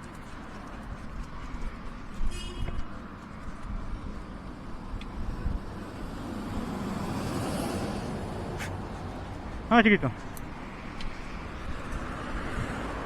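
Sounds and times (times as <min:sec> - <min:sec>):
sled wheels rumbling on pavement: 0:00.0 - 0:13.0
street traffic: 0:00.0 - 0:13.0.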